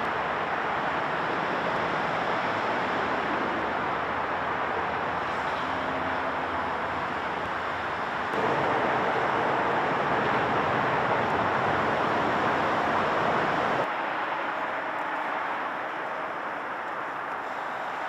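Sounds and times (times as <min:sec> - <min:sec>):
outdoor rushing noise: 0:00.0 - 0:18.0.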